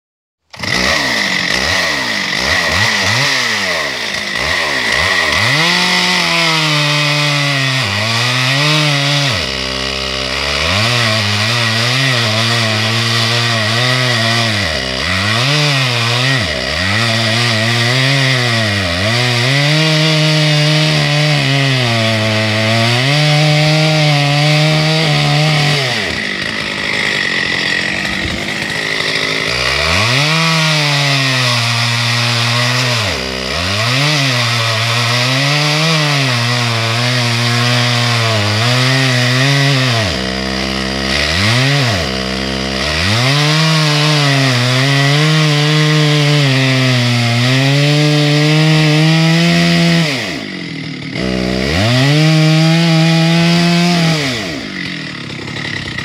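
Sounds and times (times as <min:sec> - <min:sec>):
chainsaw cutting log: 0:00.4 - 0:56.0.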